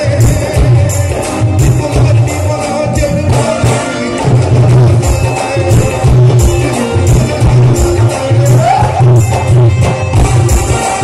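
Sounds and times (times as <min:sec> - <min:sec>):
live band music: 0:00.0 - 0:11.0
man singing: 0:00.0 - 0:11.0.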